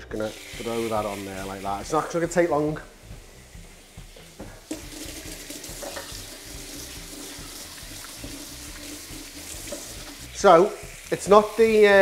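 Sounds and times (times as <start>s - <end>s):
steak sizzling on a grill pan: 0.0s - 12.0s.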